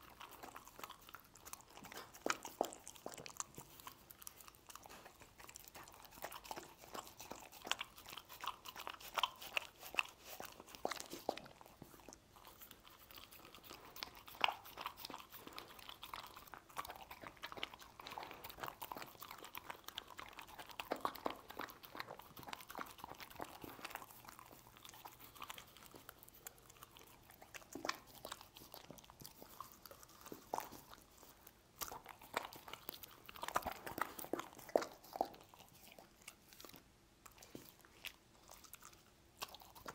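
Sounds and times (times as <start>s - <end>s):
dog chewing and crunching: 0.0s - 39.9s.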